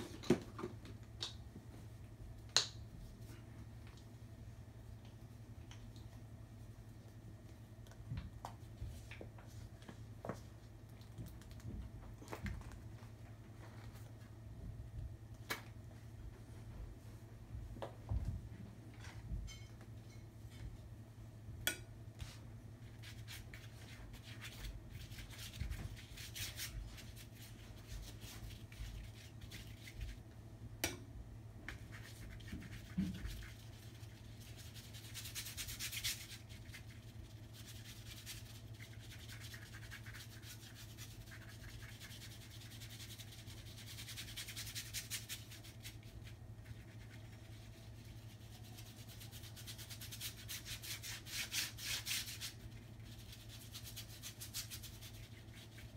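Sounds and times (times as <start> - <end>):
faint low hum: 0.0 - 55.9.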